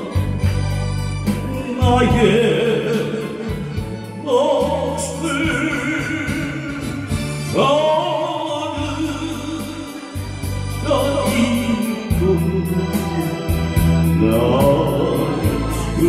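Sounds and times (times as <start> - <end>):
bass line: 0.0 - 16.0
man singing into microphone: 0.0 - 16.0.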